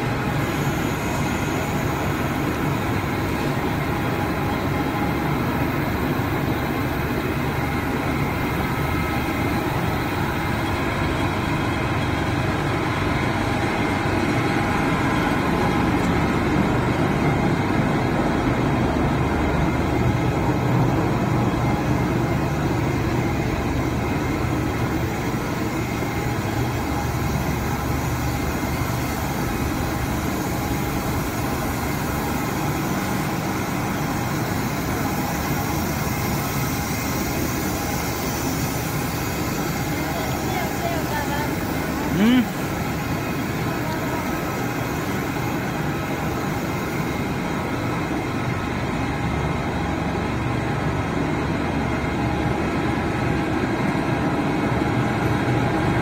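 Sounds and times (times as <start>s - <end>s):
machine motors and rollers humming: 0.0s - 56.0s.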